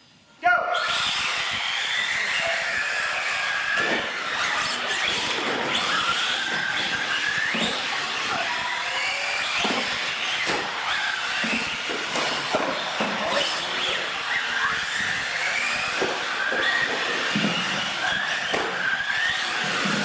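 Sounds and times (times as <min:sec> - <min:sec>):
electric motors whining: 0:00.8 - 0:20.0.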